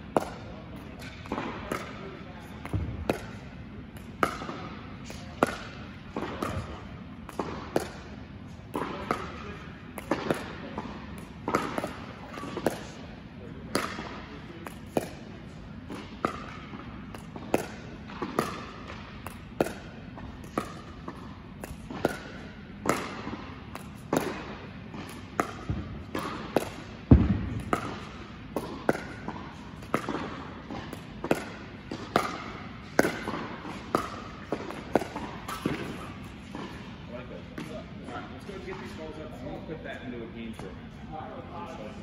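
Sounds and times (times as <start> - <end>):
paddles tapping pickleball: 0.1 - 13.0, 13.7 - 36.9
ball bouncing on hard court: 0.1 - 13.1, 13.7 - 37.8.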